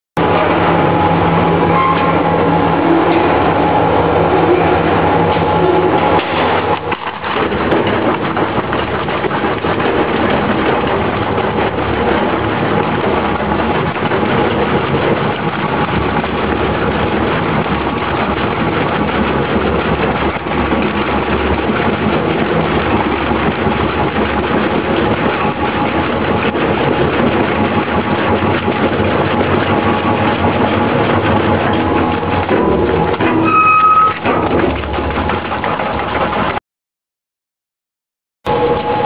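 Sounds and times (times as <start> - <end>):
shredder grinding plastic film: 2.5 - 36.6.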